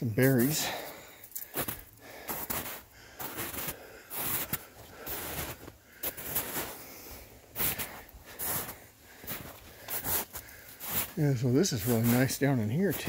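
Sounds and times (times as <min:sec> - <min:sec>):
footsteps through brush: 0:00.3 - 0:06.8, 0:07.5 - 0:13.0.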